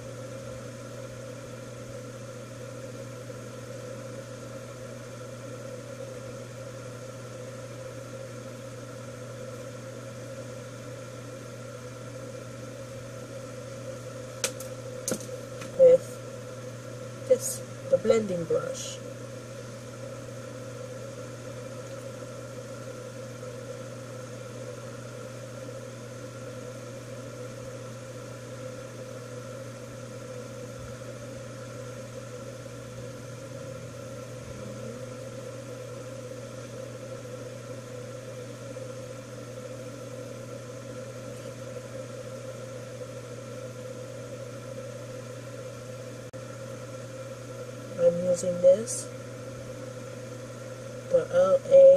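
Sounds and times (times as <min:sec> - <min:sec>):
steady mechanical hum: 0:00.0 - 0:51.9.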